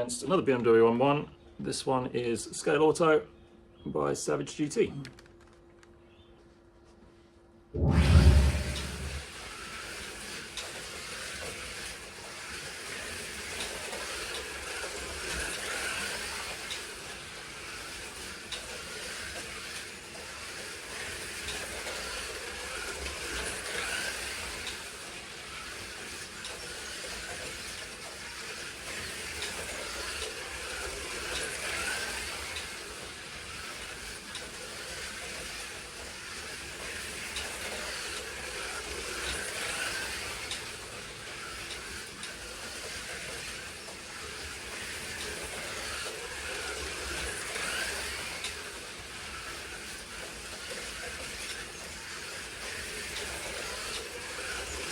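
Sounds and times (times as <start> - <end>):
braids hissing on metal rails: 8.1 - 54.9.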